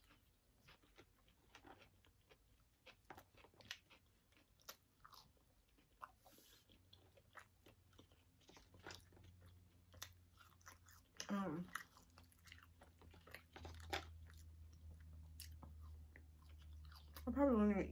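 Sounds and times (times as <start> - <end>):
person chewing food: 0.0 - 17.3
faint low hum: 0.0 - 17.9.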